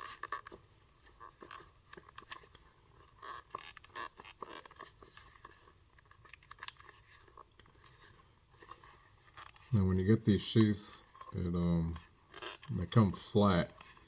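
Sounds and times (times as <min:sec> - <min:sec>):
leather sheath creaking: 0:00.0 - 0:14.0.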